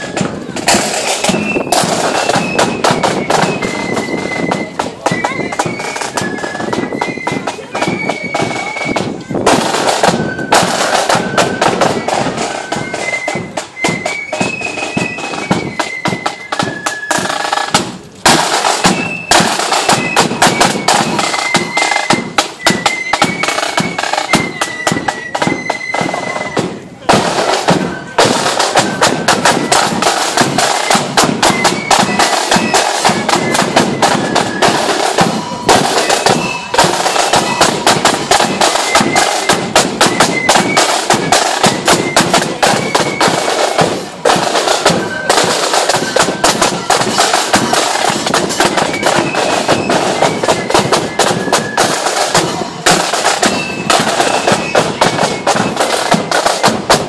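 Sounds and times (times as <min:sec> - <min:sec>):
high flute melody: 0:00.0 - 0:57.0
snare drums beating: 0:00.0 - 0:57.0.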